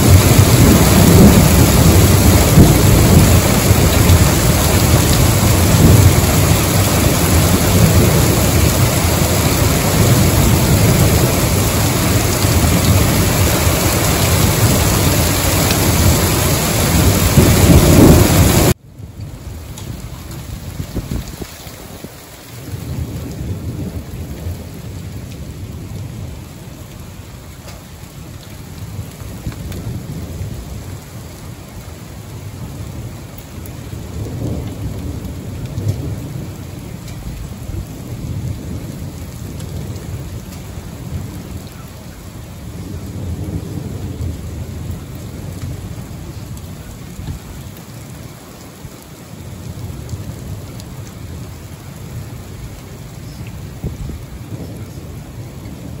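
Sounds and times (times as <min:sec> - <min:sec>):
heavy rain pouring: 0:00.0 - 0:56.0
thunder rumbling: 0:00.0 - 0:56.0.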